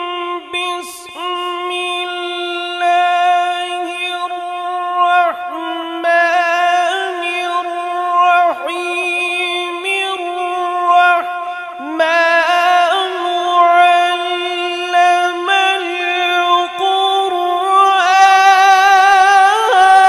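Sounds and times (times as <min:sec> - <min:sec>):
man reciting melodically: 0:00.0 - 0:20.0.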